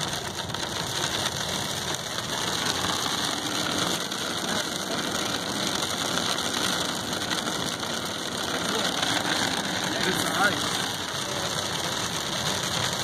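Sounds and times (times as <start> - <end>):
car engine and tyre noise: 0.0 - 13.0
hail hitting car roof: 0.0 - 13.0.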